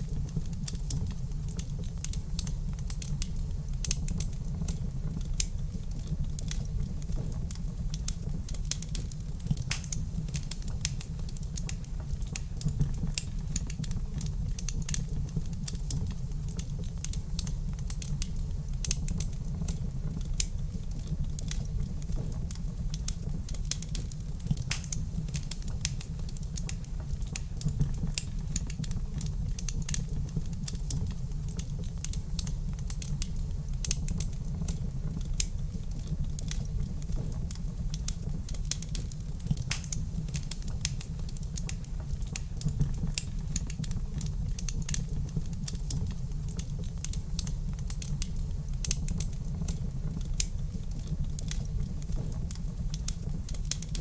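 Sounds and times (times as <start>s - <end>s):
low rumble of fire: 0.0s - 54.0s
wood fire crackling and popping: 0.0s - 54.0s.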